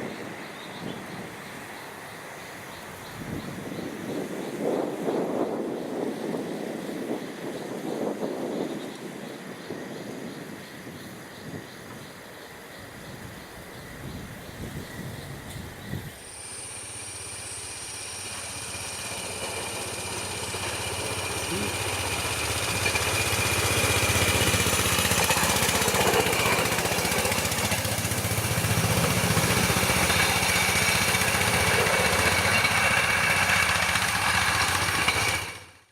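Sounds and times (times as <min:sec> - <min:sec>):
rail vehicle engine humming and whining: 0:00.0 - 0:35.9.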